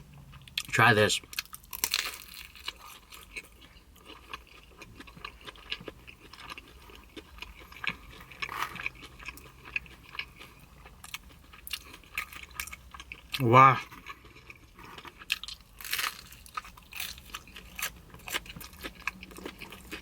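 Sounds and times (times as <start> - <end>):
chewing food: 0.1 - 20.0.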